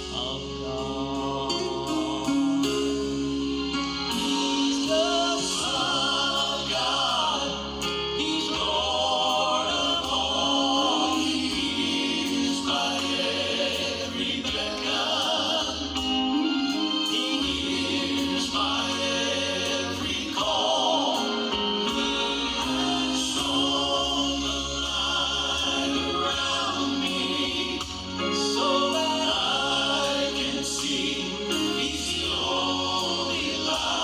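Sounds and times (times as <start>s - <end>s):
sustained instrumental accompaniment: 0.0s - 34.0s
voices singing gospel: 0.0s - 34.0s.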